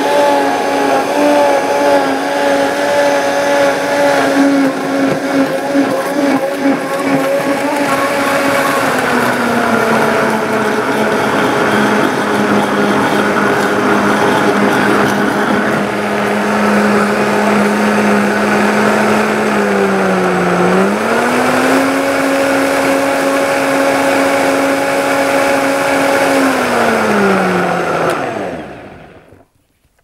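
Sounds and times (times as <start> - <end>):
blender motor running: 0.0 - 29.4.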